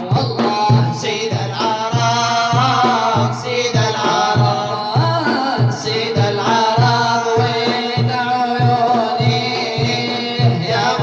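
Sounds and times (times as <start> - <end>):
men singing: 0.0 - 11.0.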